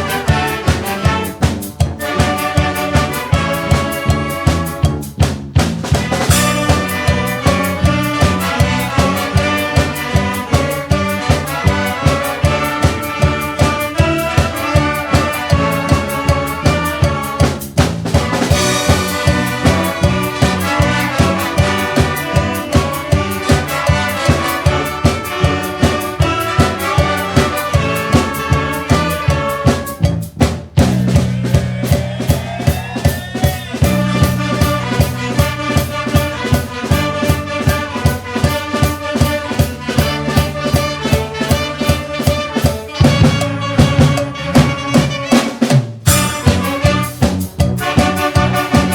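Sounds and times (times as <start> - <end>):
brass horns over drum kit: 0.0 - 48.9.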